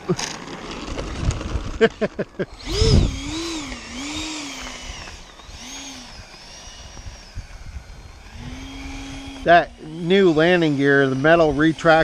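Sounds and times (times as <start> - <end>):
electric ducted fan whining: 0.1 - 12.0.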